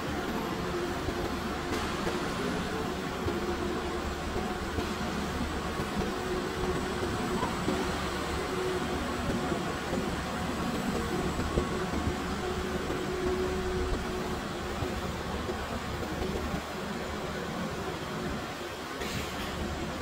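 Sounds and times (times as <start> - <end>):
electric cart humming in motion: 0.0 - 20.0.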